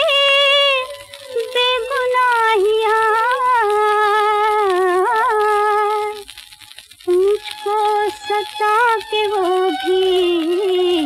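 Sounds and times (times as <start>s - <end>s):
old record film song: 0.0s - 11.0s.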